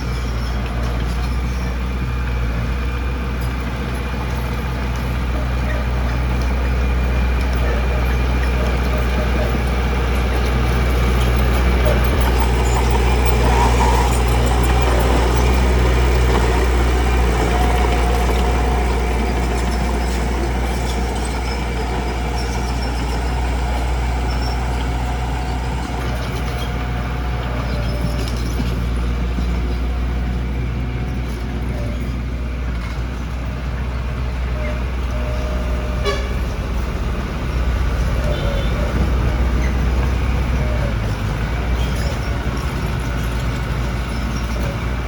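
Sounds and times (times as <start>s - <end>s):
diesel machinery engine drone: 0.0s - 45.0s.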